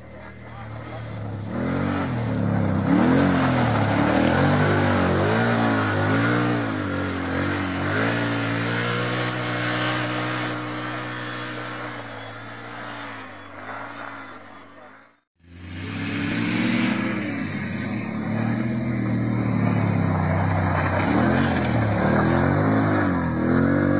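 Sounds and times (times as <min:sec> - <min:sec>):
utility vehicle engine revving: 0:00.0 - 0:23.9.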